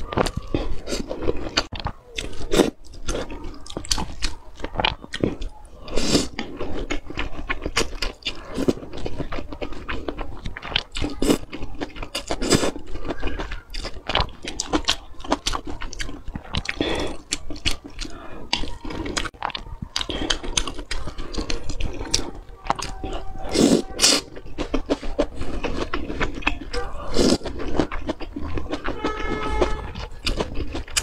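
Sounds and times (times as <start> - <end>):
chewing with wet mouth clicks: 0.0 - 31.0
noodle slurping: 0.0 - 31.0.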